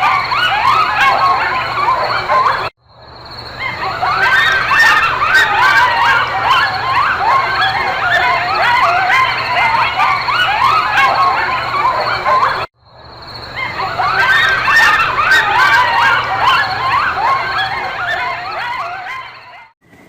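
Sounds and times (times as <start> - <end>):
chorus of high yelping calls: 0.0 - 19.8.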